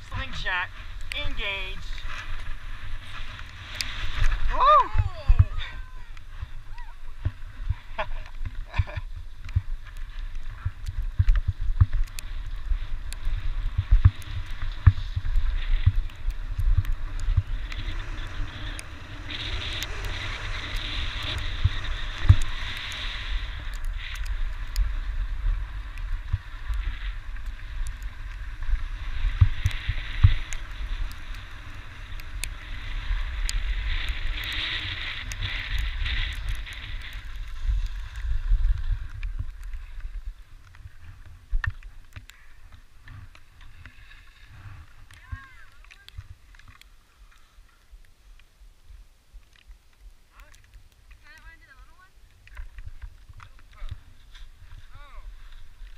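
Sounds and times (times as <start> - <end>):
skis scraping over snow: 0.0 - 48.4, 50.4 - 55.9
wind rumble on microphone: 0.0 - 55.9.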